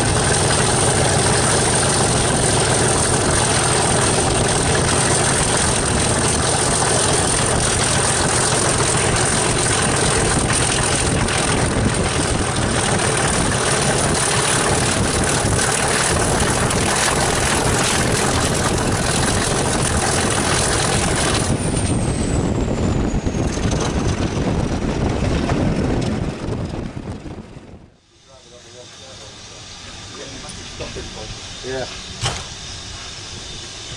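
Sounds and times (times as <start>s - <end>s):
diesel locomotive engine: 0.0s - 33.9s
high whine falling in pitch: 1.5s - 33.9s.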